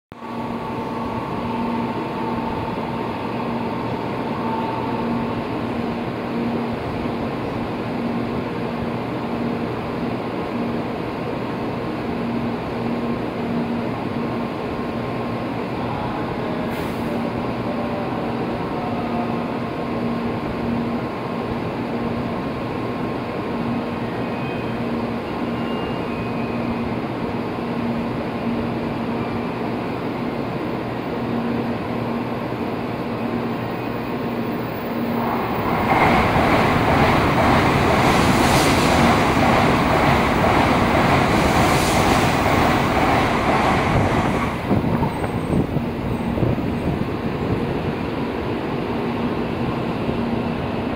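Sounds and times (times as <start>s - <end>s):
train passing at speed: 0.1s - 50.9s.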